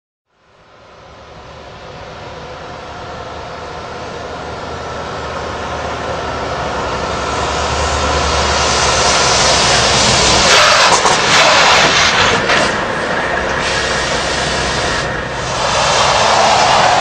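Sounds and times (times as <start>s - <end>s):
truck engine and road noise: 0.3s - 17.0s.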